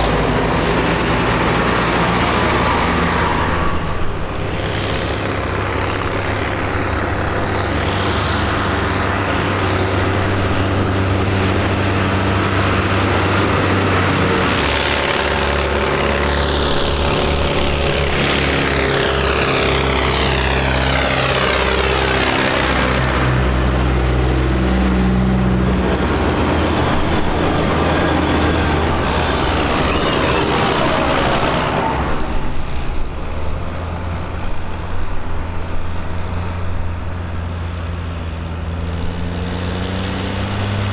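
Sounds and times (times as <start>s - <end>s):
tractors driving past: 0.0s - 40.9s.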